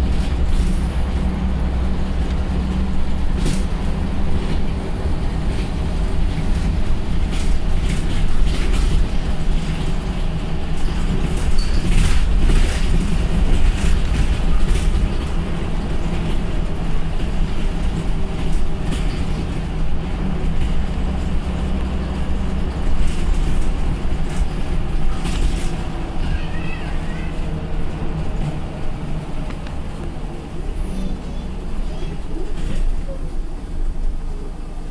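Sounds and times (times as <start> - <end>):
bus engine drone: 0.0 - 34.9
road noise: 0.0 - 34.9.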